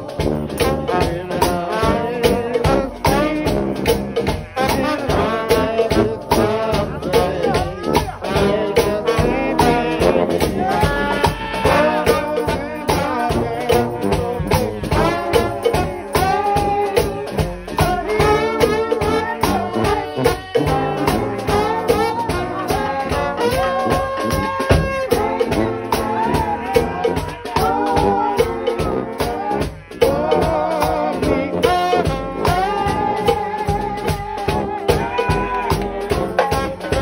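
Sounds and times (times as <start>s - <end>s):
fast steady drumming: 0.0s - 37.0s
trombones playing in harmony: 0.0s - 37.0s.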